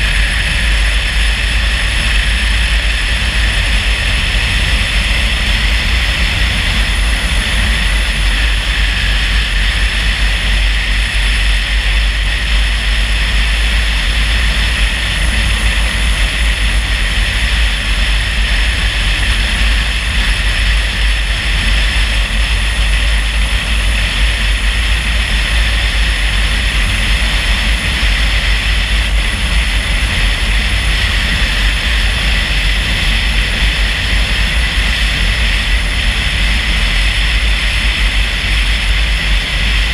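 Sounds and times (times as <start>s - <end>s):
tyre and wind noise: 0.0s - 39.9s.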